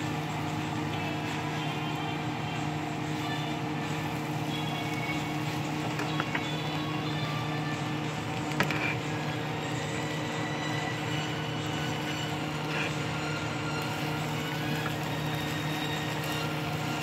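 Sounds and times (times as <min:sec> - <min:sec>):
steady hum with low hiss: 0:00.0 - 0:17.0
tongs stirring noodles in a pan: 0:00.0 - 0:17.0.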